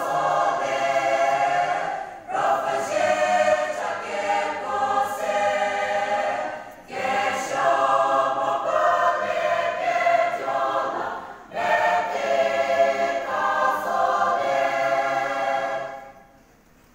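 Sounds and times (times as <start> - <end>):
women's choir singing in unison: 0.0 - 16.5.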